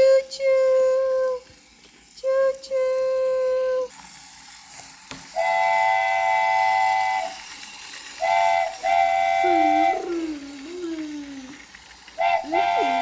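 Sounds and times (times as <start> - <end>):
toy train electronic whistle: 0.0 - 13.0.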